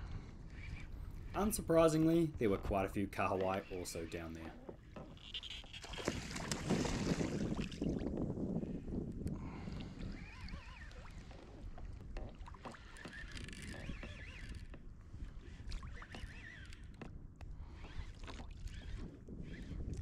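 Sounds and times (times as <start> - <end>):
water sloshing around kayak: 0.0 - 20.0.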